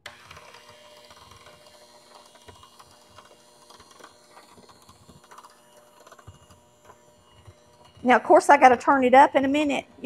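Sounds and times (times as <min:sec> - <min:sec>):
electric hand mixer running: 0:00.0 - 0:10.0.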